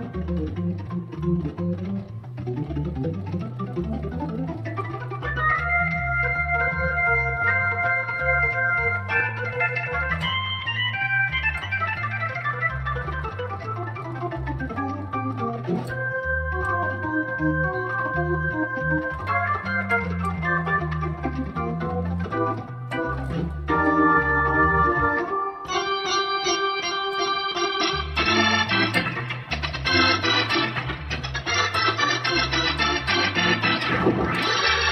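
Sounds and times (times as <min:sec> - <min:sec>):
organ chords and bass line: 0:00.0 - 0:34.9.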